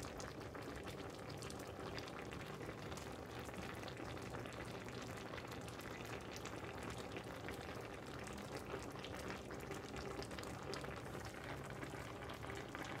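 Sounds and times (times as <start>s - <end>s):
sauce bubbling in a frying pan: 0.0s - 13.0s.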